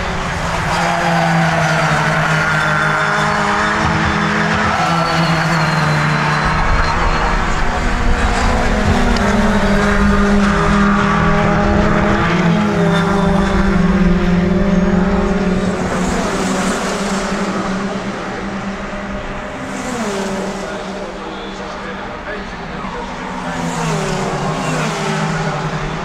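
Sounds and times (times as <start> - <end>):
race cars passing at speed: 0.0 - 26.0.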